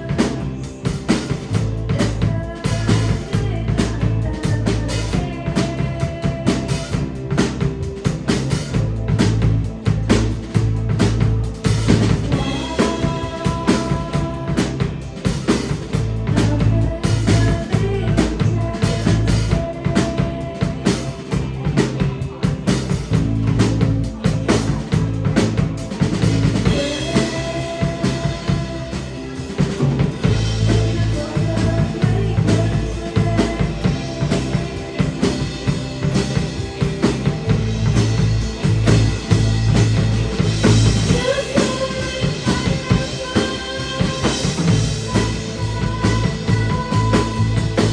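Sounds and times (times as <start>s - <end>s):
drum kit beat: 0.0s - 47.9s
live rock band playing: 0.0s - 47.9s.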